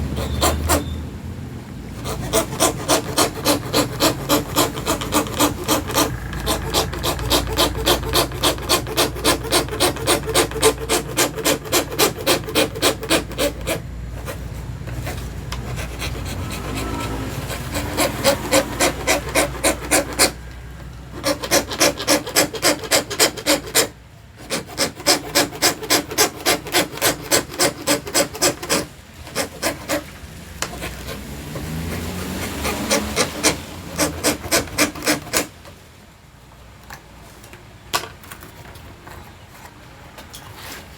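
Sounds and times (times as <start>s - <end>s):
hand saw cutting acrylic sheet: 0.0s - 1.0s, 1.9s - 20.5s, 21.1s - 35.6s.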